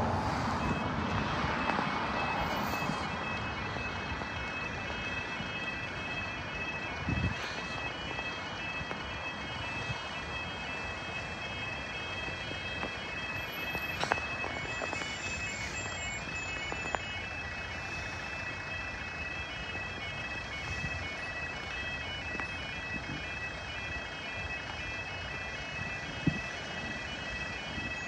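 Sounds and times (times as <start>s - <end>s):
road and wind noise: 0.0s - 28.0s
two-tone level crossing alarm: 0.0s - 28.0s.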